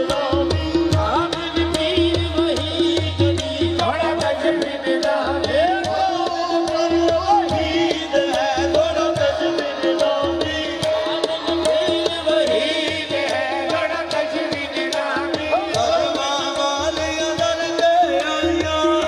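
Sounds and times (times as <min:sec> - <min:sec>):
man singing through microphone: 0:00.0 - 0:19.0.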